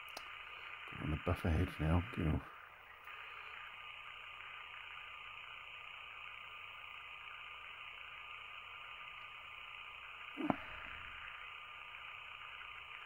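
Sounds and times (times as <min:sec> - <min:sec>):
background hiss: 0:00.0 - 0:13.0
thin high hum: 0:00.0 - 0:13.0.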